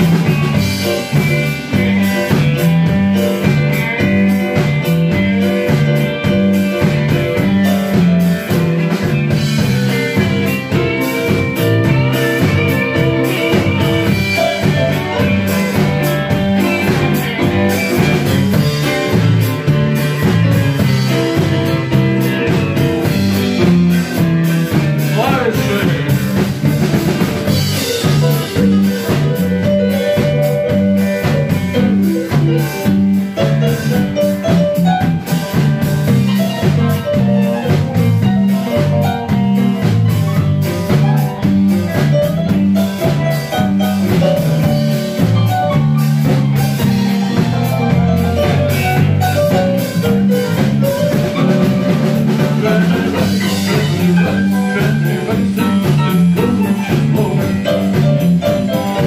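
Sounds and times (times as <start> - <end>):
blues band playing live: 0.0 - 59.0
drum kit beat: 0.0 - 59.0
guitar sliding notes: 0.0 - 59.0.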